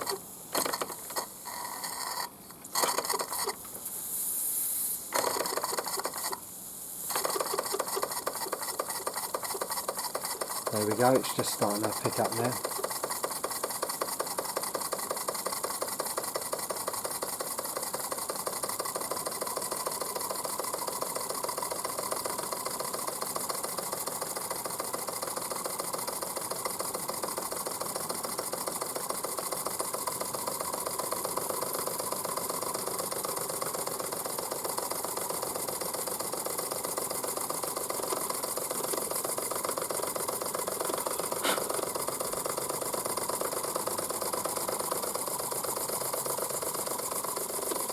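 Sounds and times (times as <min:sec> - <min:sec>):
model steam engine running: 0:00.0 - 0:03.6, 0:05.1 - 0:06.4, 0:07.1 - 0:47.9
steam hissing: 0:02.8 - 0:47.9.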